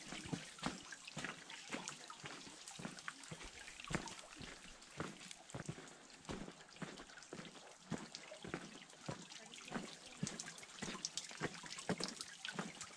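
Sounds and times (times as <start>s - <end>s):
running water trickling: 0.0s - 12.9s.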